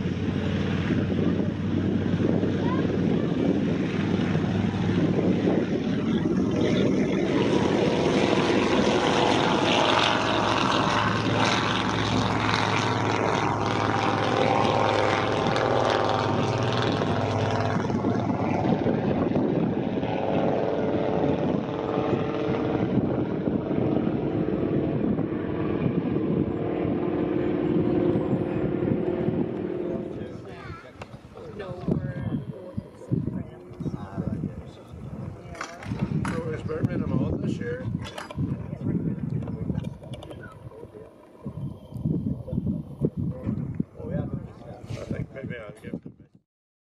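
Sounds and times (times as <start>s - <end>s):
propeller plane taking off: 0.0s - 46.0s.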